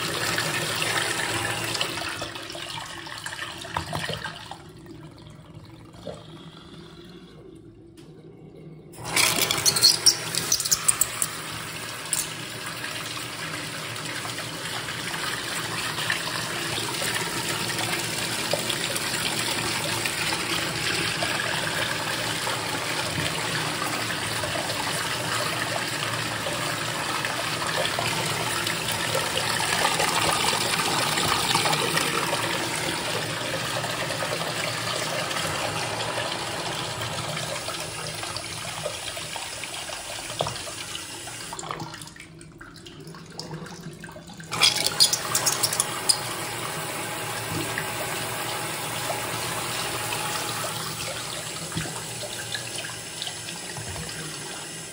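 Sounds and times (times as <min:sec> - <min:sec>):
water rushing through toilet bowl: 0:09.0 - 0:54.9.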